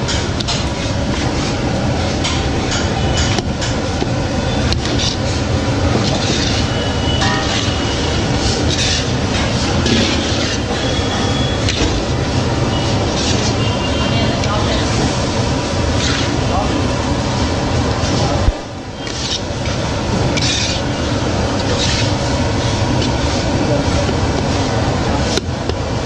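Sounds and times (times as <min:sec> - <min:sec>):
heavy machinery rumbling: 0:00.0 - 0:26.0.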